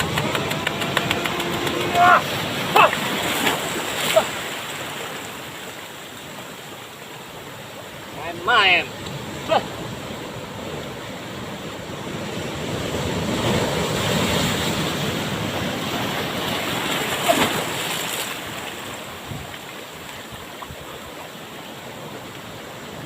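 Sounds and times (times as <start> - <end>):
wave breaking and washing in: 0.0 - 23.0.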